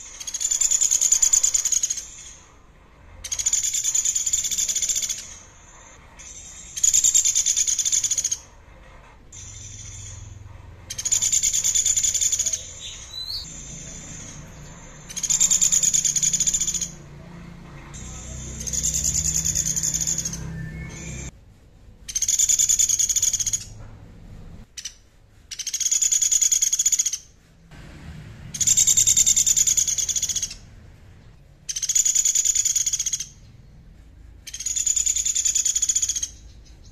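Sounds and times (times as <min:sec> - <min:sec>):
songbird buzzy trill: 0:00.0 - 0:08.5, 0:09.3 - 0:17.2, 0:17.9 - 0:21.3, 0:22.1 - 0:23.8, 0:24.7 - 0:27.4, 0:28.4 - 0:36.9.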